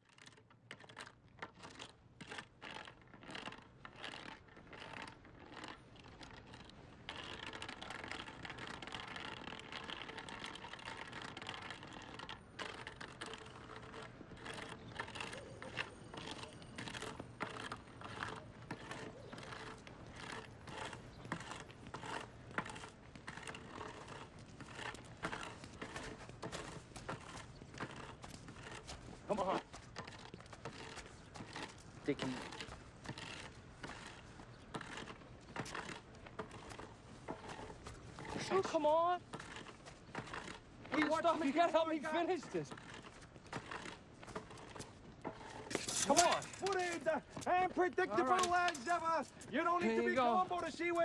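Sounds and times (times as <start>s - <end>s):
street background: 0.0s - 51.0s
quick clicks and scrapes: 0.1s - 49.6s.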